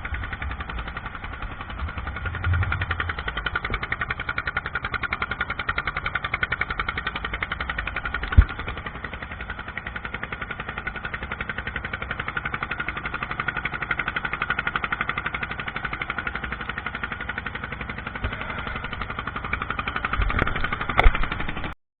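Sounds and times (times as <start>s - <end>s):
boat engine pulsing: 0.0s - 21.8s.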